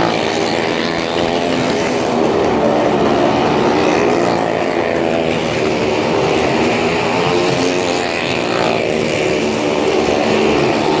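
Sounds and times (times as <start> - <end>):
motorcycle engines running hard: 0.0 - 11.0.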